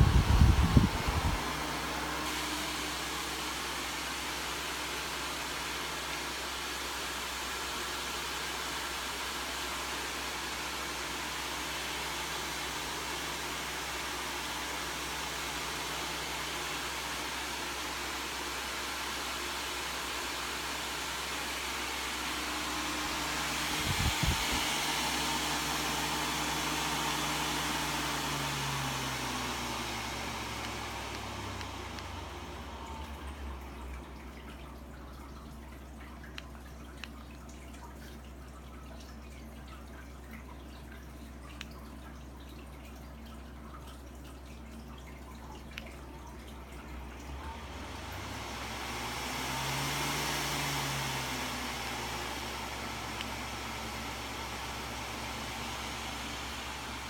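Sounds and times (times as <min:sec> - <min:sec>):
fan heater airflow and hum: 0:00.0 - 0:57.0.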